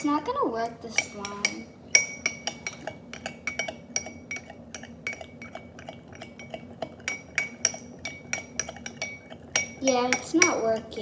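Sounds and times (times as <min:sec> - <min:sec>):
spoon clinking in glass bowl: 0:00.9 - 0:10.7.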